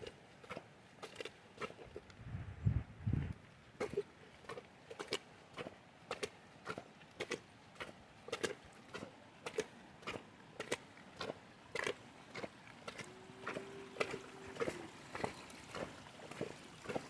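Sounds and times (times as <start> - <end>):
boots wading through water: 0.0 - 2.2, 3.3 - 17.0.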